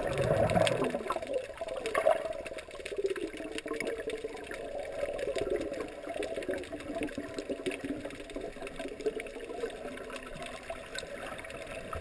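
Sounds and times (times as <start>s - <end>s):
bubbles crackling: 0.0s - 12.0s
muffled underwater water noise: 0.0s - 12.0s.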